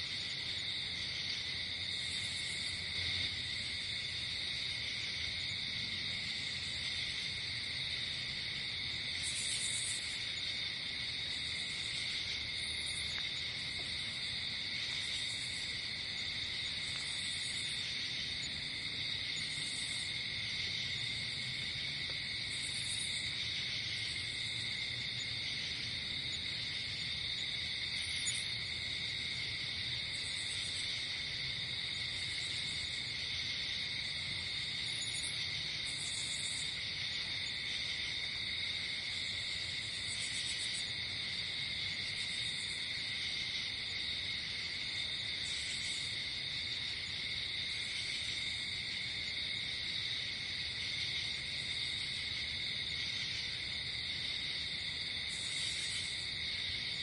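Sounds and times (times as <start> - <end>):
crickets trilling: 0.0 - 57.0
high-pitched cricket chirps: 0.0 - 57.0.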